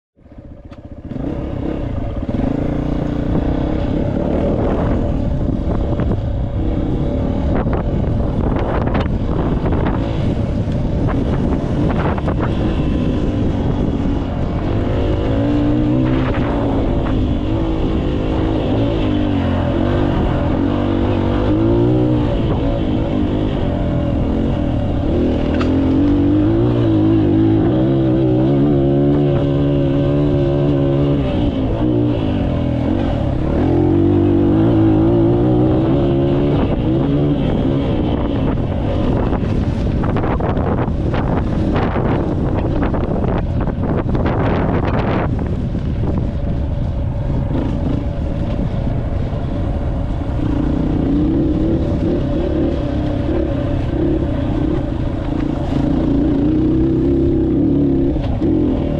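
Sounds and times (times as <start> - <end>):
rough gusty noise: 0.6 - 58.9
dirt bike engine revving: 0.9 - 45.3, 50.4 - 58.9.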